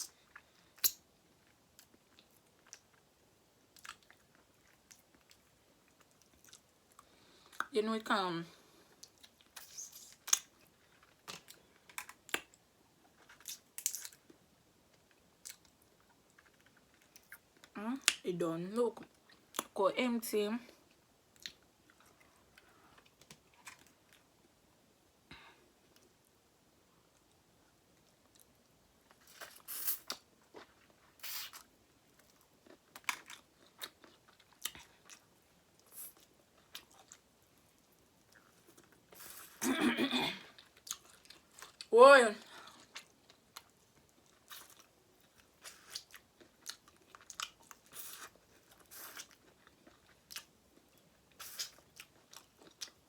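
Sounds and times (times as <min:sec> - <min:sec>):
crunching and chewing: 0:00.0 - 0:03.1, 0:03.7 - 0:07.7, 0:08.9 - 0:18.2, 0:20.8 - 0:24.4, 0:28.0 - 0:39.6, 0:40.5 - 0:41.9, 0:42.6 - 0:53.0.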